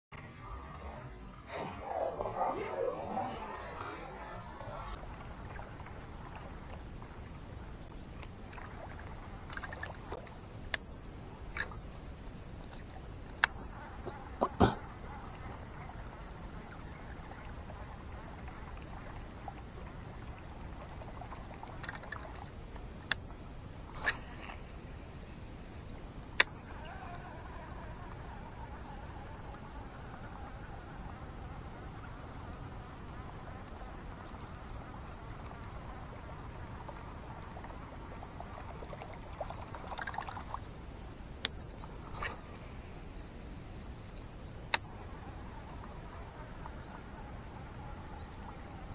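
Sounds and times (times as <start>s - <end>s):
outdoor background hiss: 0.2s - 48.9s
water splashing and trickling: 0.6s - 25.6s, 26.2s - 48.9s.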